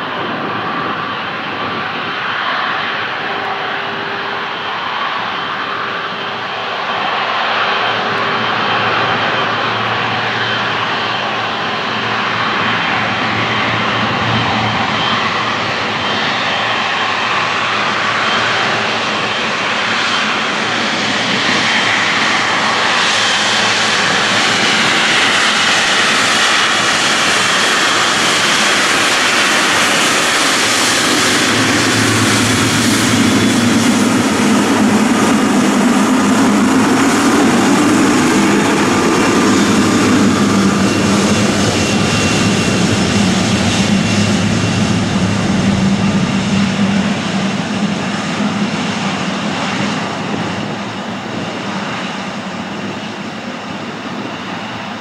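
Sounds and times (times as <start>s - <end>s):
deep jet rumble: 0.0s - 55.0s
jet engines whining: 0.0s - 55.0s.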